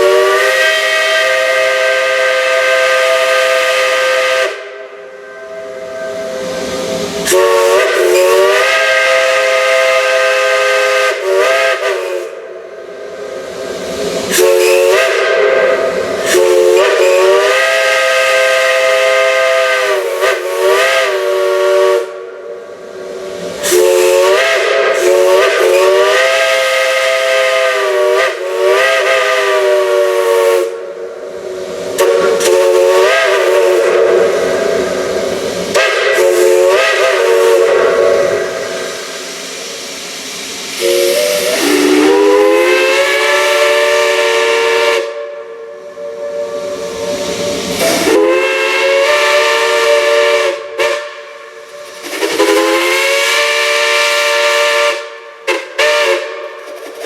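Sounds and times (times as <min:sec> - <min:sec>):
steam whistle chord blasts: 0:00.0 - 0:22.7, 0:23.6 - 0:56.6
steam hissing: 0:00.0 - 0:57.0.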